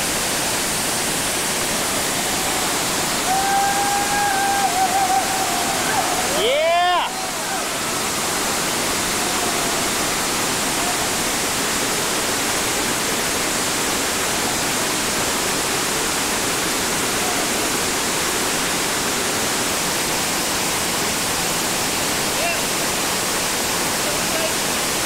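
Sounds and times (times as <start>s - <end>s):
whitewater rushing through rapids: 0.0s - 25.0s.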